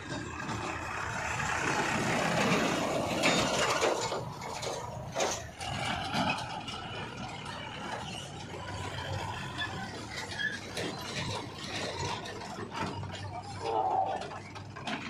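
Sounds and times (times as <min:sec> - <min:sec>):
tractor engine running: 0:00.0 - 0:15.0
trailer rattling and clattering: 0:00.0 - 0:15.0.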